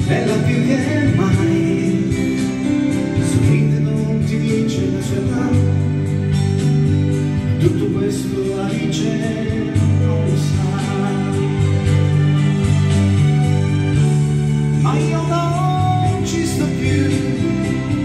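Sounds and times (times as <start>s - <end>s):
electronic keyboard chords: 0.0s - 18.0s.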